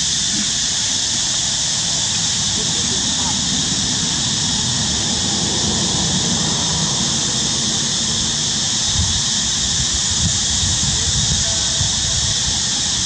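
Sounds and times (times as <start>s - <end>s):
high-pitched outdoor hiss: 0.0s - 13.0s
uneven low rumble: 1.4s - 12.6s.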